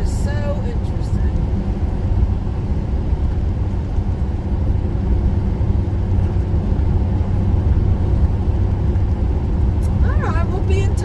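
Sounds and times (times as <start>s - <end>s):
road and engine rumble in cabin: 0.0s - 11.0s.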